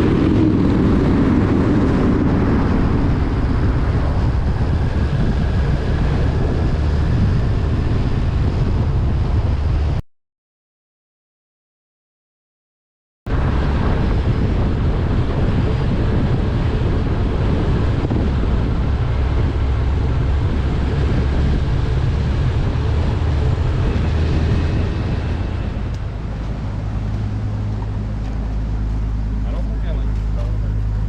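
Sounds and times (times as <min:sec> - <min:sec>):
engine running: 0:00.0 - 0:10.0, 0:13.3 - 0:31.0
wind noise on microphone: 0:00.0 - 0:10.0, 0:13.3 - 0:31.0.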